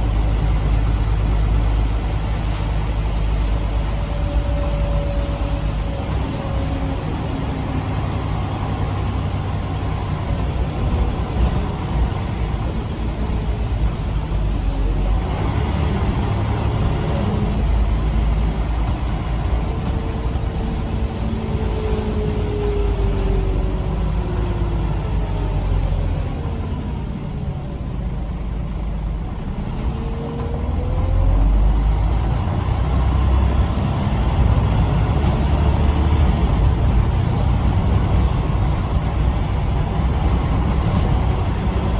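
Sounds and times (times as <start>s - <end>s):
diesel bus engine rumbling: 0.0s - 41.9s.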